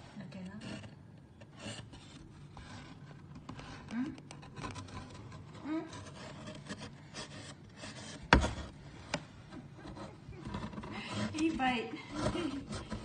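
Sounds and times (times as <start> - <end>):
cat paws scratching cardboard: 0.2 - 13.0.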